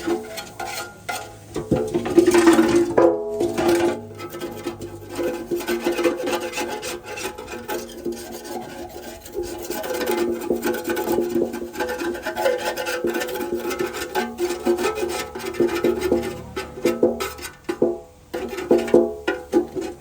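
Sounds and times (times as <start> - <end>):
scraping on metal engine part: 0.0 - 20.0.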